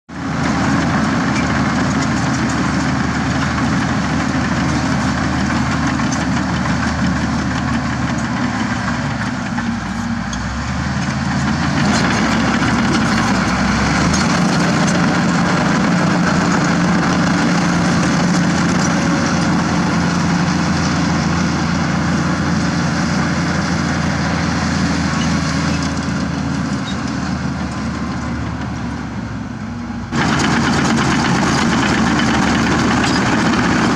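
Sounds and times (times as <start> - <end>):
bulldozer diesel engine running: 0.1 - 33.9.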